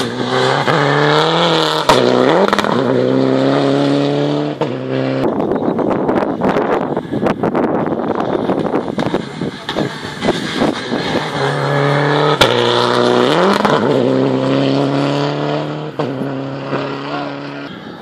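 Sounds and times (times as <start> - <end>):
engine crackling: 0.0 - 18.0
rally car engine: 0.0 - 18.0.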